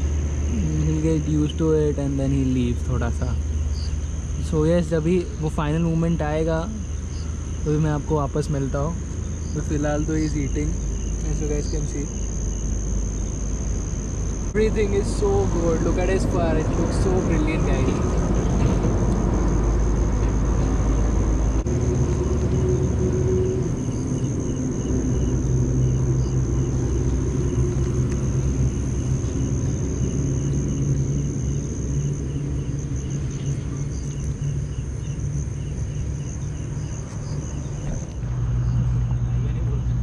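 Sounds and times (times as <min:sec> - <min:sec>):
crickets trilling: 0:00.0 - 0:40.0
faint insect chirping: 0:00.0 - 0:40.0.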